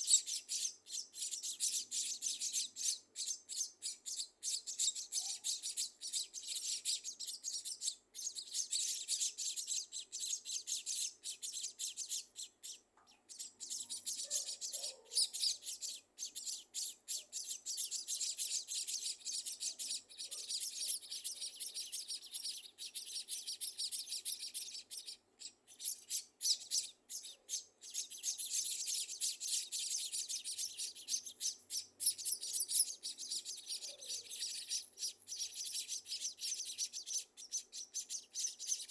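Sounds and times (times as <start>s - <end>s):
nestlings chirping: 0.0s - 38.9s.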